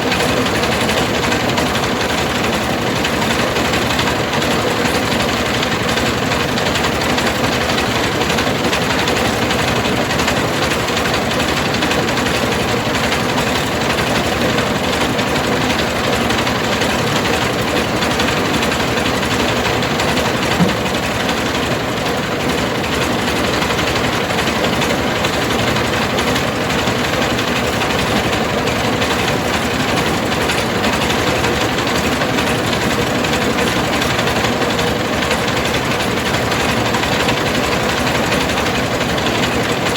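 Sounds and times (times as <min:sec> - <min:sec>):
rice mill machine running: 0:00.0 - 0:39.9.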